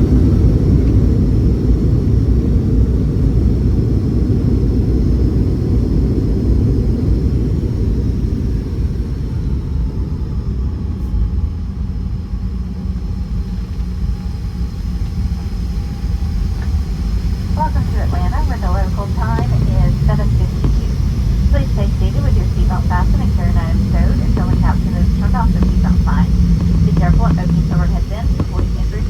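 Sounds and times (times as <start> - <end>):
aircraft wheels rumbling on runway: 0.0 - 29.0
faint jet engine whine: 0.0 - 29.0.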